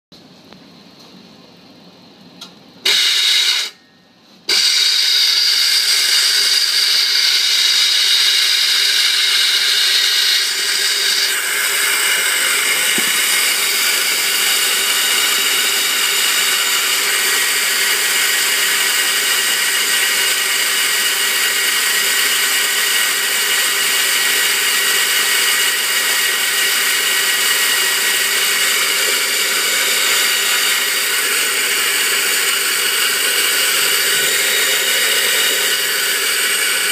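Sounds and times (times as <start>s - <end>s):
electric coffee grinder whirring: 2.9s - 3.8s, 4.5s - 36.9s.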